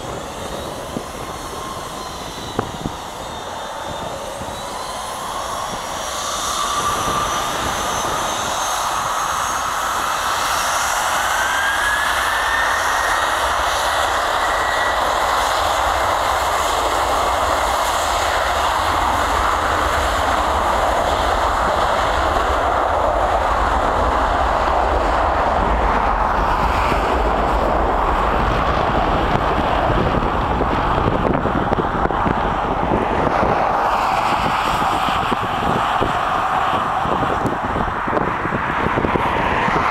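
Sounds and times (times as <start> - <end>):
jet engines spooling up and roaring: 0.0 - 39.9.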